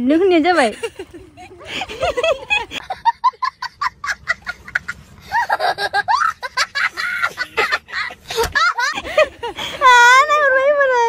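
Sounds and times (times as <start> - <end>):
woman laughing: 0.6 - 10.7.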